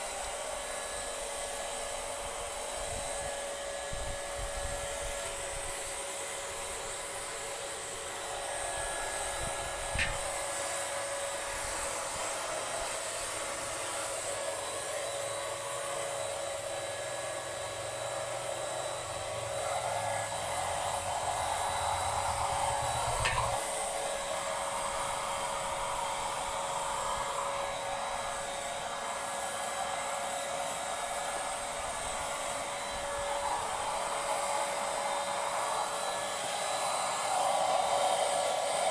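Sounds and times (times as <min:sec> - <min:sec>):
electric paint sprayer running: 0:00.0 - 0:38.9.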